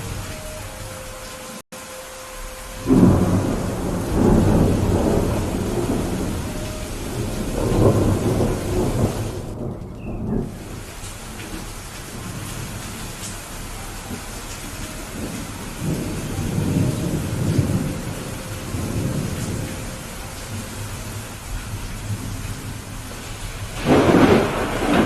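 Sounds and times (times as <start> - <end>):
heavy rain: 0.0 - 25.0
thunder rumbling: 2.2 - 25.0.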